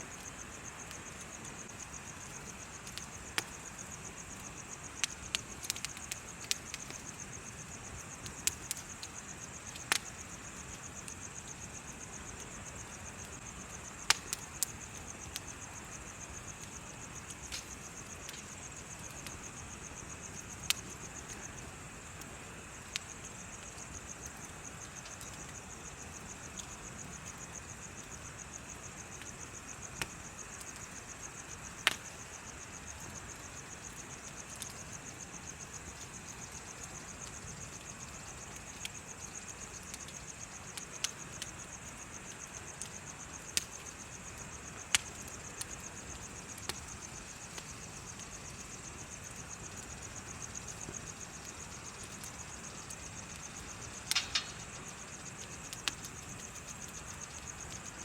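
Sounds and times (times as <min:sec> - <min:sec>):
bonfire crackling and popping: 0:00.0 - 0:58.0
insects chirping: 0:00.0 - 0:58.0.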